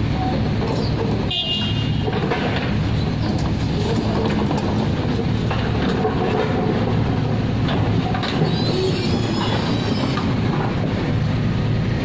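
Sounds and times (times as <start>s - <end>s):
diesel engines humming: 0.0s - 12.0s.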